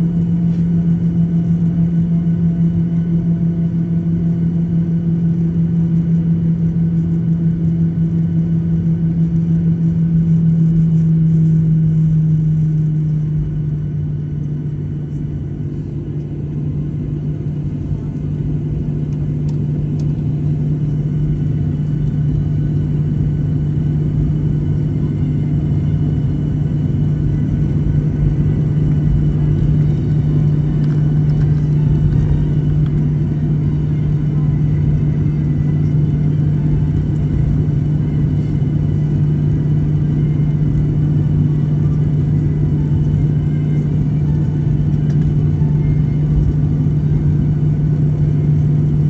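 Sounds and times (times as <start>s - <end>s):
loud low engine drone: 0.0s - 49.0s.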